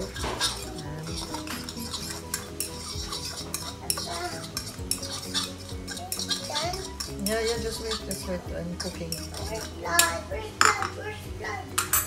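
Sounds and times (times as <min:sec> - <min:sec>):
fork clinking and scraping bowl: 0:00.0 - 0:11.0, 0:11.8 - 0:12.0.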